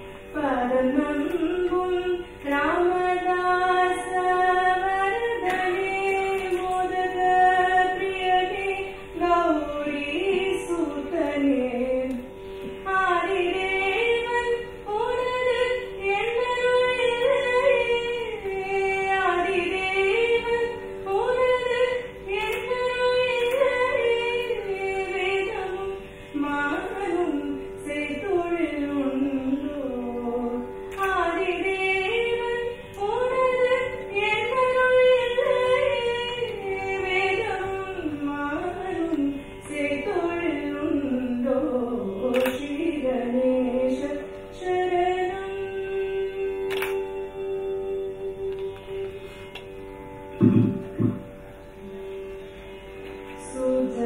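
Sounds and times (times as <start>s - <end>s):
woman singing: 0.3s - 48.7s, 53.4s - 54.0s.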